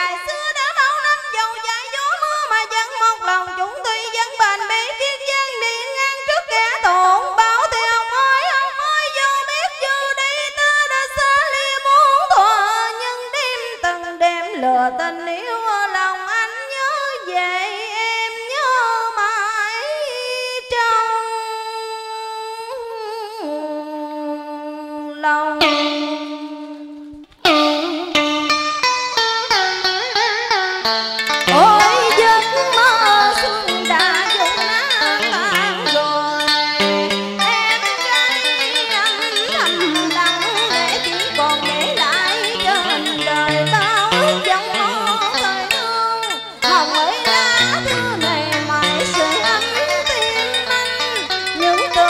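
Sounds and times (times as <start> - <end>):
woman singing into microphone: 0.0 - 27.1, 31.5 - 52.0.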